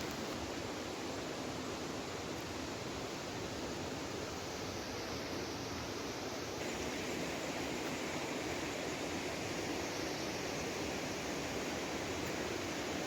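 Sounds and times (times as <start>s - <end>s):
mountain creek rushing: 0.0s - 13.0s.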